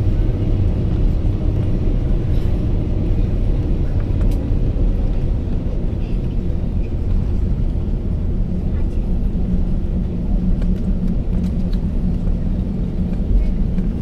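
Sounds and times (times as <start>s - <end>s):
jet engine low rumble in cabin: 0.0s - 14.0s.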